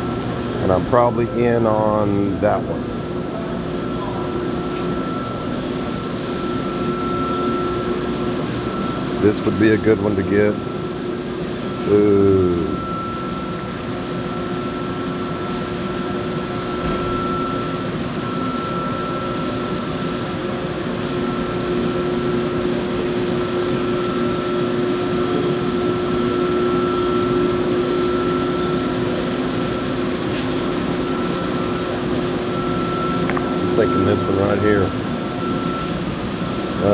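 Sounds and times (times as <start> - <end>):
constant whine: 0.0 - 36.9
machinery humming: 0.0 - 36.9.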